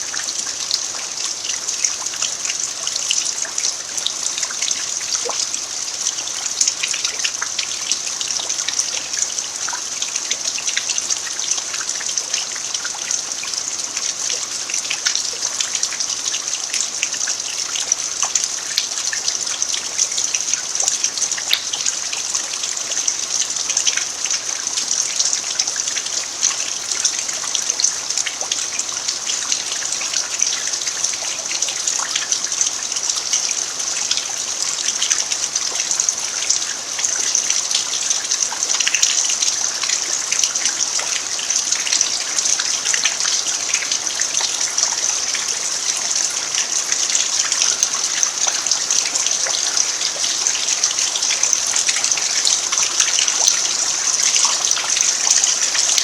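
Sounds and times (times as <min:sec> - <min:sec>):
rain falling on dirt: 0:00.0 - 0:56.0.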